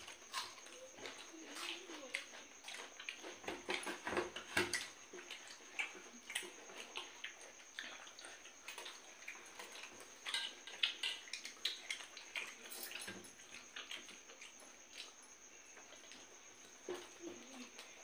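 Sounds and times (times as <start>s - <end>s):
chewing and lip smacks: 0.0s - 3.8s, 4.7s - 16.4s.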